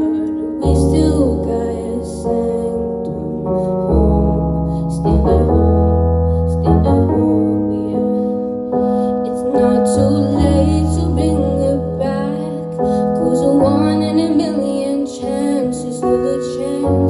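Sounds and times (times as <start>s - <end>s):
piano ballad chords: 0.0s - 17.0s
woman singing: 0.0s - 17.0s.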